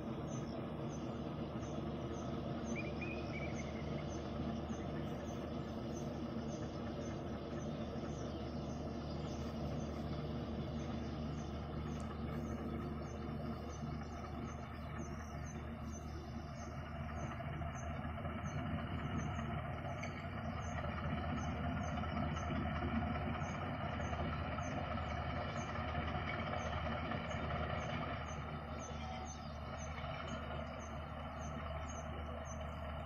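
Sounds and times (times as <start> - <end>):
distant locomotive engine drone: 0.0 - 33.0.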